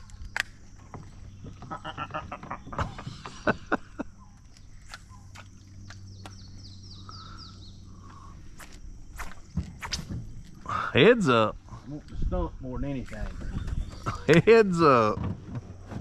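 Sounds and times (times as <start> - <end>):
birds singing: 0.0 - 15.8
steady low hum: 0.0 - 16.0.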